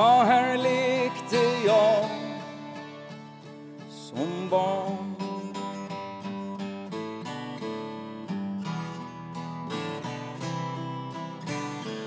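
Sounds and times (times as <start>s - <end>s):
twelve-string acoustic guitar chords: 0.0s - 12.0s.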